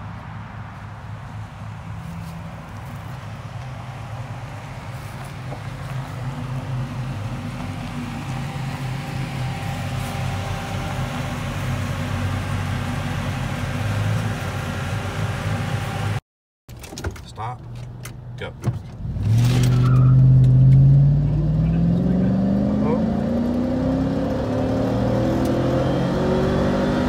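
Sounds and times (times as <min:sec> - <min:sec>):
truck engine at low speed: 0:00.0 - 0:16.2, 0:17.9 - 0:27.0.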